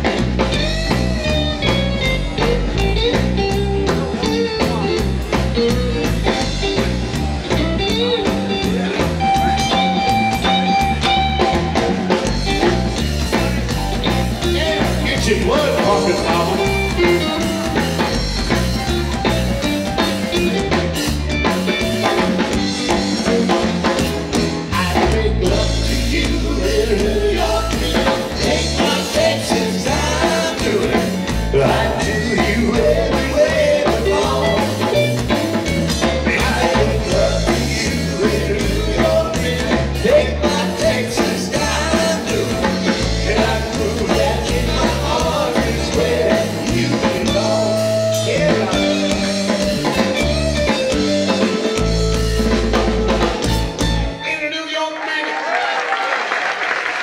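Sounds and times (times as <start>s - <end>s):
electric guitar lead: 0.0s - 54.4s
live rock band playing: 0.0s - 54.6s.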